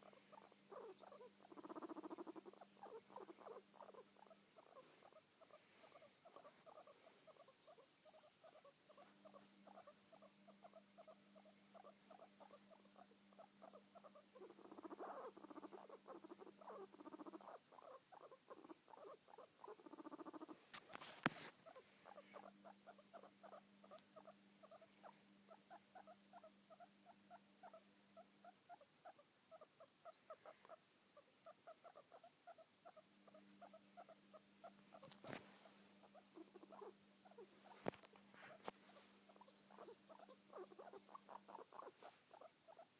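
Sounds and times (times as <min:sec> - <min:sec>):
guinea pig purring: 0:00.0 - 0:42.9.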